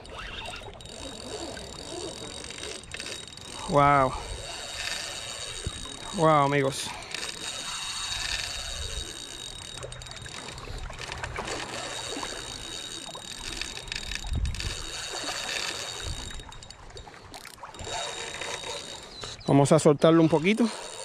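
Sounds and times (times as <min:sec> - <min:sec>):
fishing reel drag clicking: 0:00.0 - 0:21.0
water noise: 0:00.0 - 0:21.0
wind: 0:00.0 - 0:21.0.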